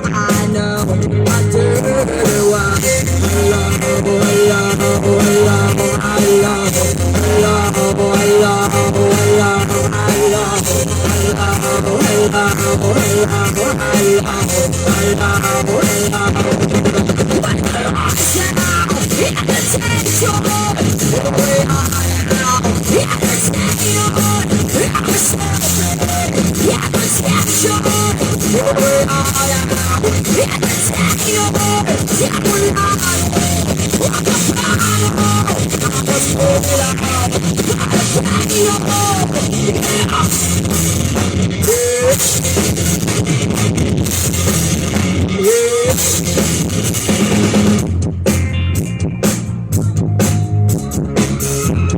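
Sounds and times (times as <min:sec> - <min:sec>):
drum kit steady beat: 0:00.0 - 0:51.9
electric guitar lead: 0:00.0 - 0:51.9.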